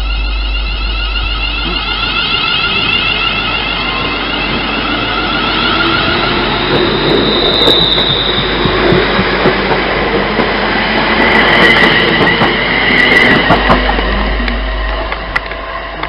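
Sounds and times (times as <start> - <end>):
electric traction whine: 0.0 - 16.0
train wheels rumbling on rail: 0.0 - 16.0.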